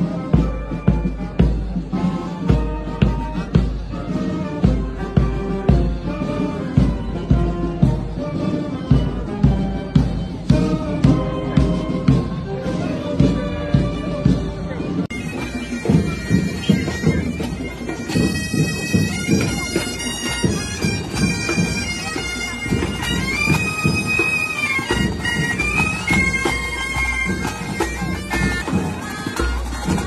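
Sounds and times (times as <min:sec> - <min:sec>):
piercing pipe melody: 0:00.0 - 0:30.0
steady drum beats: 0:00.0 - 0:30.0.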